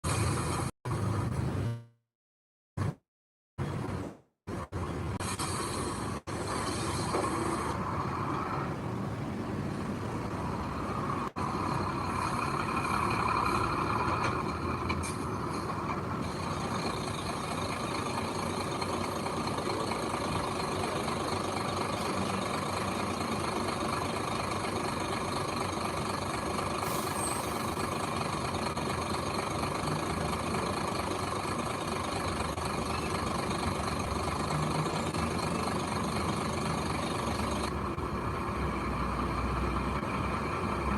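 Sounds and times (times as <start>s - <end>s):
heavy diesel engine running: 4.5s - 40.9s.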